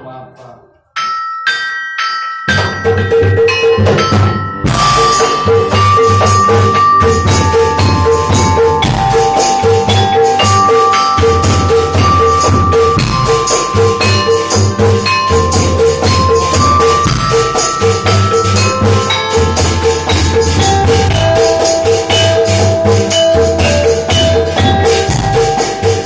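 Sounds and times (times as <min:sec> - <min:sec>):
melody of held notes: 0:01.1 - 0:26.0
fast drum and percussion beat: 0:02.4 - 0:26.0.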